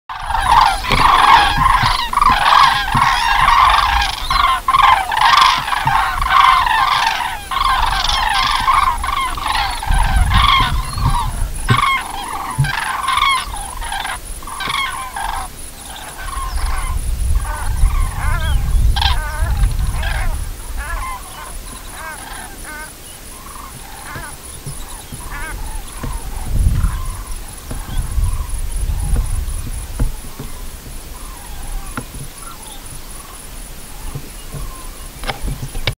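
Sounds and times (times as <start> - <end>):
cranes trumpeting calls: 0.1 - 35.9.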